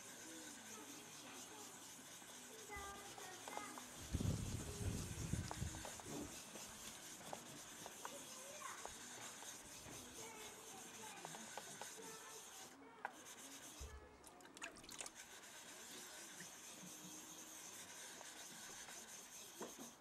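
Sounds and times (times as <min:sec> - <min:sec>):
knife scraping on wet whetstone: 0:00.0 - 0:20.0.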